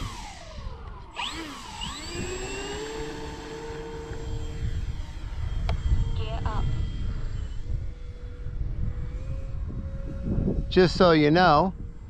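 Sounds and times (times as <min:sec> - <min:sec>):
electric motors and propellers whining: 0:00.0 - 0:12.0.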